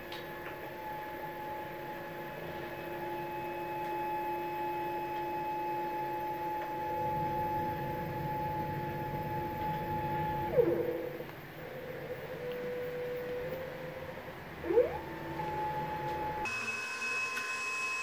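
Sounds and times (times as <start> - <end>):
stepper motor whine: 0.6 - 18.0.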